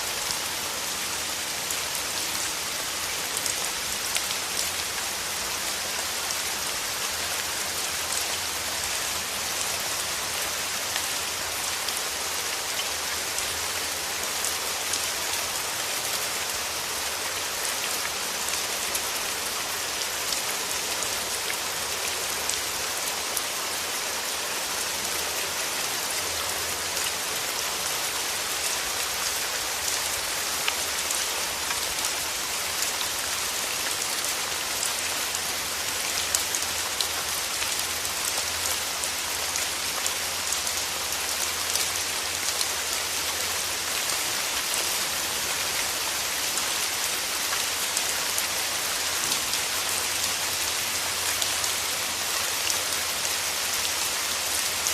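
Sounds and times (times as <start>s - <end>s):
rain falling through trees: 0.0s - 54.9s.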